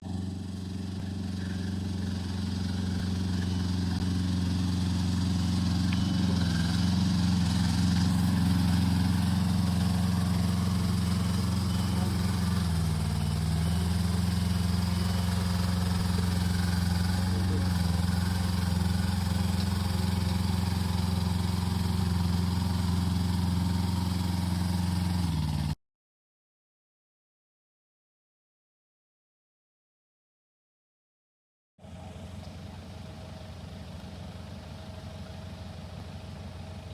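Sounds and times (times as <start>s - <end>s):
large engine running: 0.0s - 25.8s, 31.8s - 36.9s.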